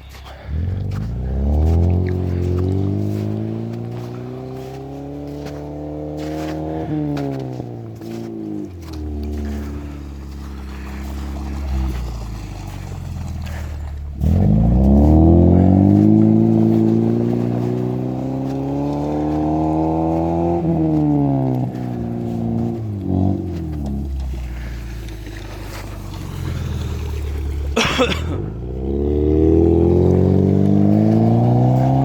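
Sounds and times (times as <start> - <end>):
car engine revving: 0.2 - 32.0.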